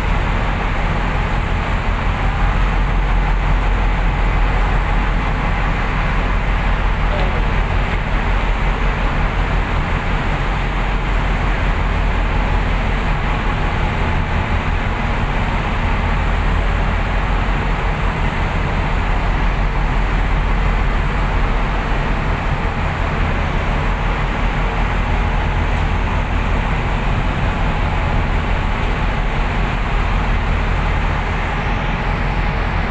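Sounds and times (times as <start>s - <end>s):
ferry engines humming: 0.0s - 32.9s
wind and water rushing: 0.0s - 32.9s.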